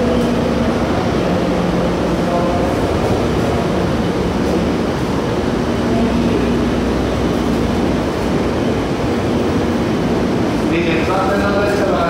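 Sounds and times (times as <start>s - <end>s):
standing train hum: 0.0s - 12.0s
station ambience: 0.0s - 12.0s.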